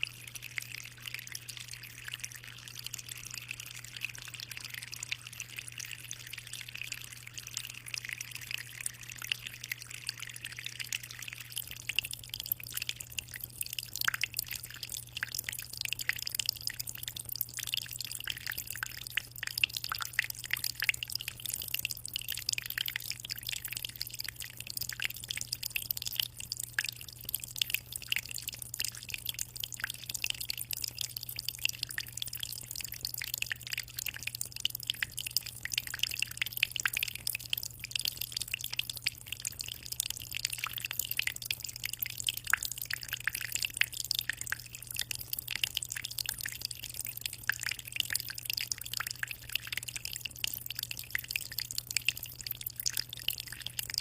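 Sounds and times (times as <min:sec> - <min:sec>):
aquarium water trickling: 0:00.0 - 0:54.0.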